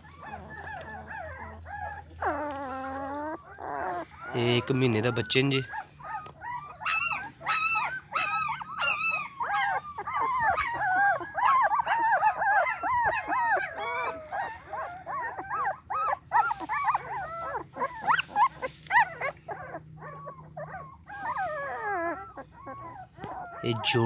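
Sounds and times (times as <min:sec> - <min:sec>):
puppies whining and yelping: 0:00.0 - 0:24.0.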